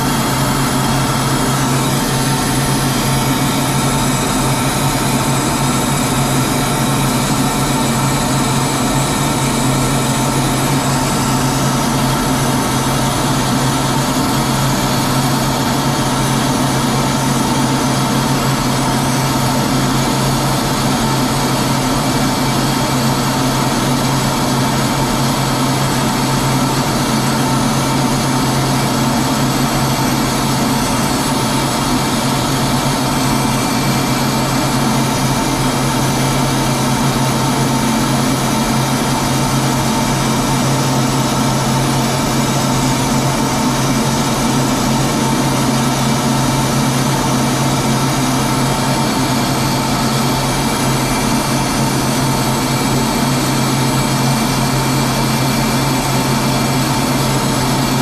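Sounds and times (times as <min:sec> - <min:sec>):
aircraft engine drone in flight: 0:00.0 - 0:58.0.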